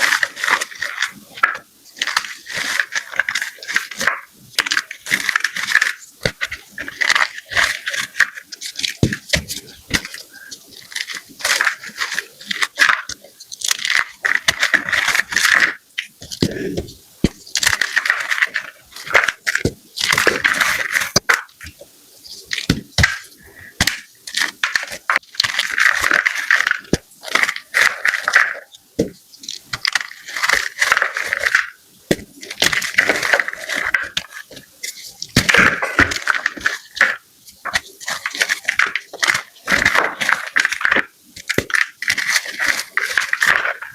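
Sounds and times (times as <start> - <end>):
chalk being crushed: 0.0 - 43.9.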